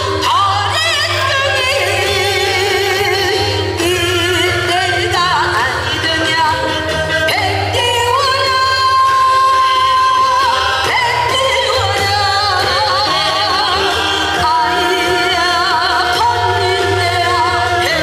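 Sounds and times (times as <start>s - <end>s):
recorded accompaniment: 0.0s - 18.0s
woman singing through a microphone: 0.0s - 18.0s.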